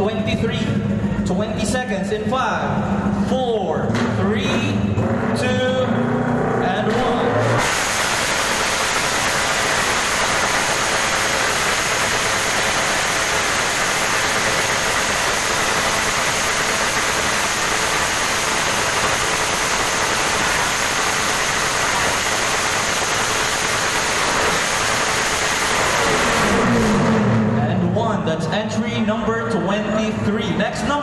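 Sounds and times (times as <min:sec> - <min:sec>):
motorcycle engine roaring: 0:00.0 - 0:31.0.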